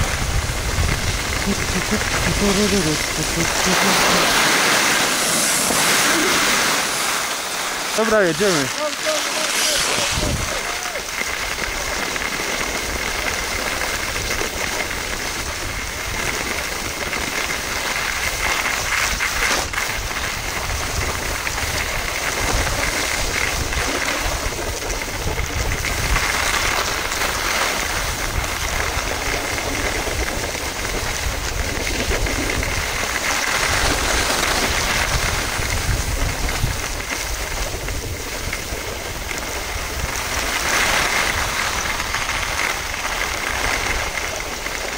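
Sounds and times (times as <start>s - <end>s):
wind buffeting microphone: 0.0s - 7.2s, 9.5s - 11.9s, 12.8s - 44.9s
skis scraping over snow: 0.0s - 44.9s.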